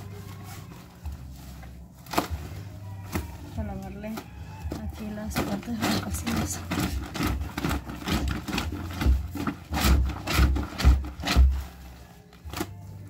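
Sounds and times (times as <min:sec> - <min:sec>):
clothes scrubbed on washboard: 0:00.0 - 0:12.8.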